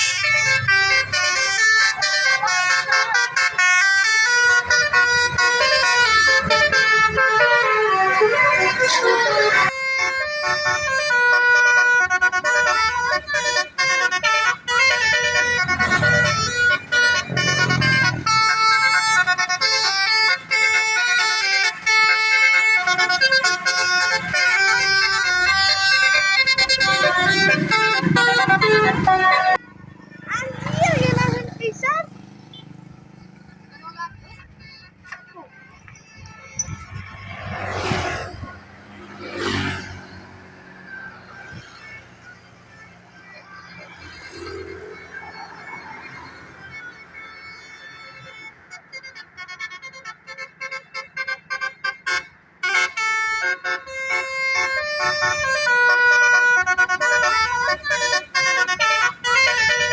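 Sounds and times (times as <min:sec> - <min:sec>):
musical bus horn tune: 0:00.0 - 0:29.7, 0:34.1 - 0:40.3, 0:46.5 - 0:59.9.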